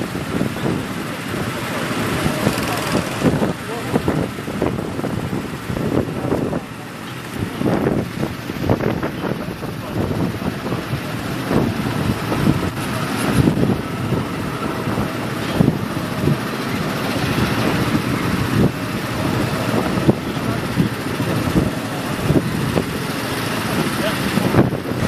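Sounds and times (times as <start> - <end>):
go-kart engines running: 0.0 - 25.0.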